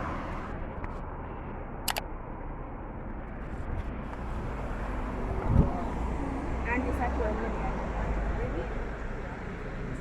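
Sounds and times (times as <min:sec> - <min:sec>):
car road noise rumble: 0:00.0 - 0:10.0.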